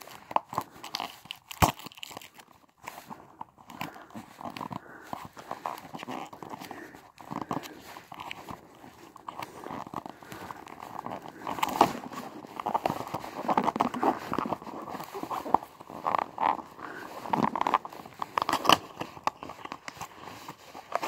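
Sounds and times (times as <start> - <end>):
hands handling cardboard box: 0.0 - 21.0.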